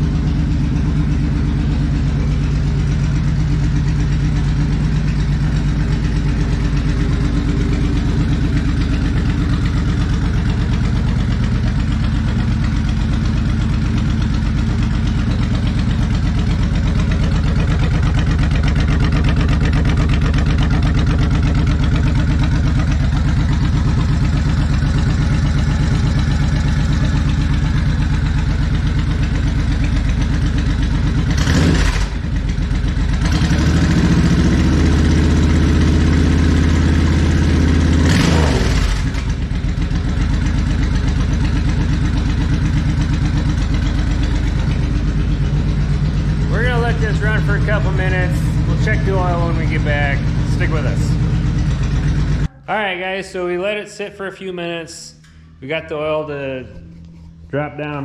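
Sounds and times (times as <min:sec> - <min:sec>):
motorcycle engine idling: 0:00.0 - 0:53.7.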